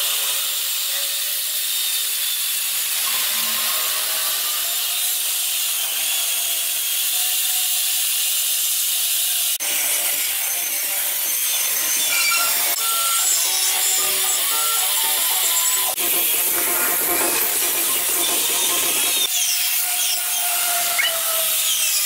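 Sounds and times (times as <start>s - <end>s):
angle grinder sanding wood: 0.0s - 22.0s.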